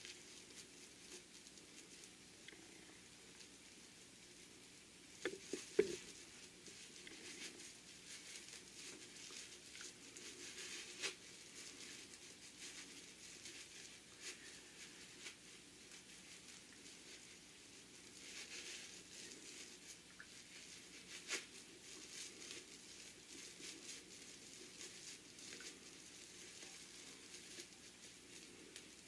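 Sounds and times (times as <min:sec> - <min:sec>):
fabric rustling and rubbing: 0:05.3 - 0:29.0.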